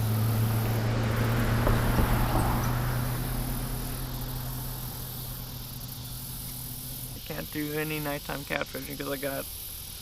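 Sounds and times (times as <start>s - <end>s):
vehicle engine humming: 0.0s - 10.0s
vehicle passing by: 0.0s - 10.0s.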